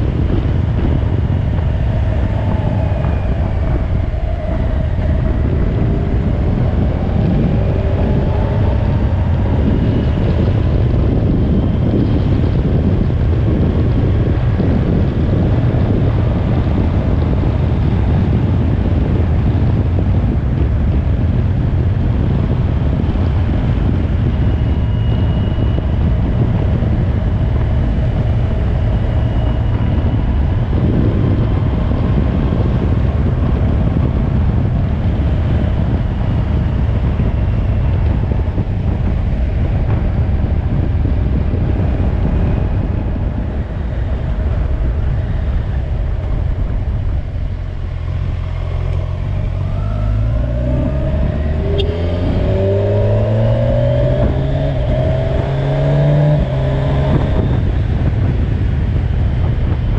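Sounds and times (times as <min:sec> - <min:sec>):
heavy wind noise: 0:00.0 - 0:59.9
motorcycle engine running: 0:00.0 - 0:59.9.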